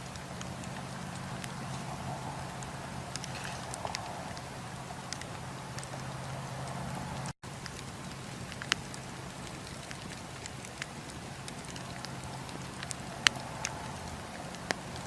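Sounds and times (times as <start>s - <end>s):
fire hissing: 0.0s - 15.0s
wood fire crackling and popping: 0.0s - 15.0s.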